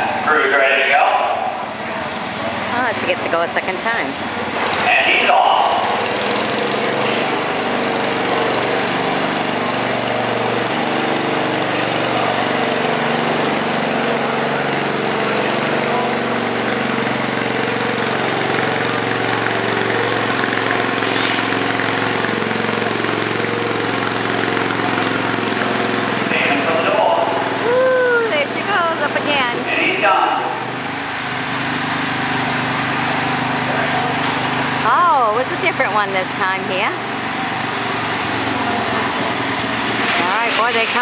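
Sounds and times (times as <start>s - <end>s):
small tractor engine running: 0.0s - 41.0s.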